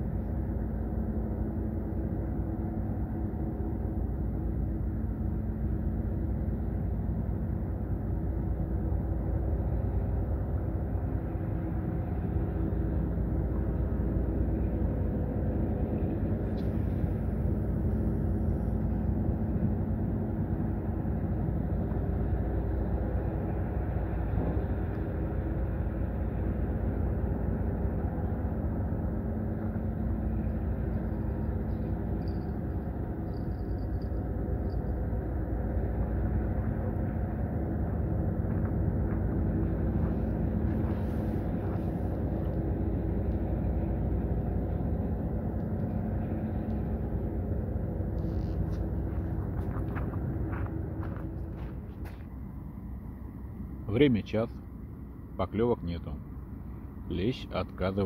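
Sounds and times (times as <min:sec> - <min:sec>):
engine droning: 0:00.0 - 0:58.0.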